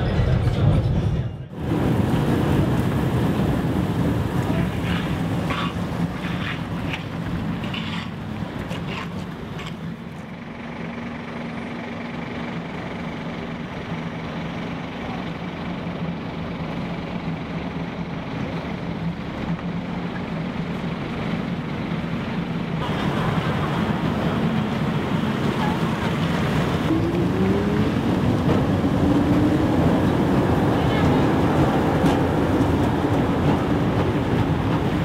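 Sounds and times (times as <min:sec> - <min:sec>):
street noise: 0:00.0 - 0:35.0
tram equipment humming: 0:00.0 - 0:35.0.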